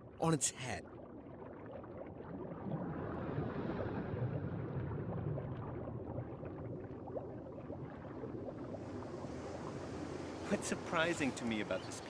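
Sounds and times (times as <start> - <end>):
water with low rumble: 0.0 - 12.0.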